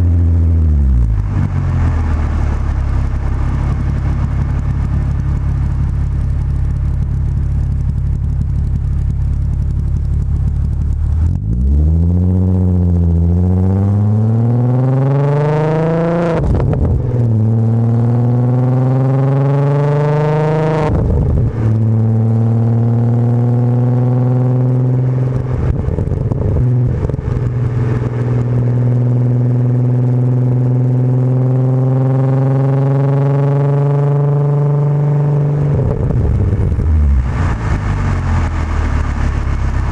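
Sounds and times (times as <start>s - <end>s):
car exhaust accelerating and upshifting: 0.0s - 39.9s.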